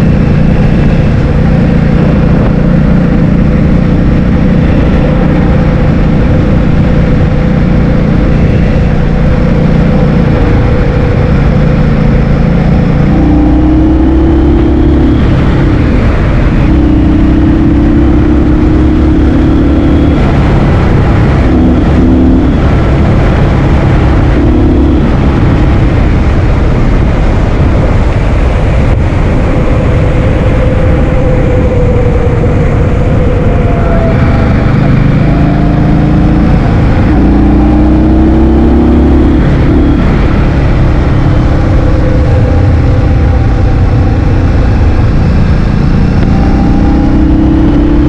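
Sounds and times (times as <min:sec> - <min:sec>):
wind buffeting microphone: 0:00.0 - 0:18.8, 0:20.1 - 0:48.0
scooter engine: 0:00.0 - 0:48.0.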